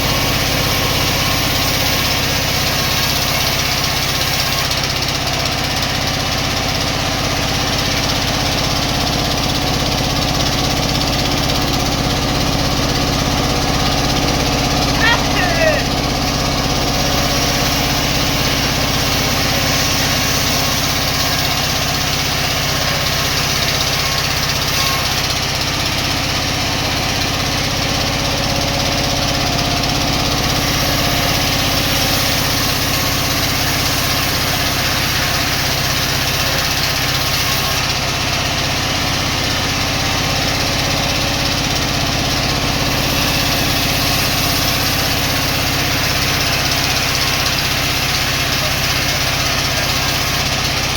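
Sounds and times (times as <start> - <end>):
sawmill machinery humming: 0.0 - 50.9.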